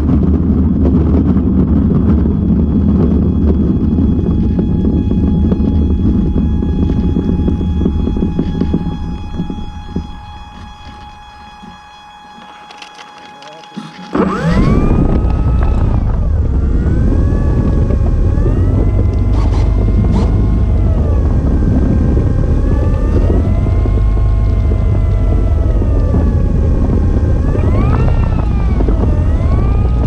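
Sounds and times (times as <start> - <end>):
propwash rumble on microphone: 0.0 - 13.1, 14.1 - 30.0
electric motor and propeller whine: 0.0 - 30.0.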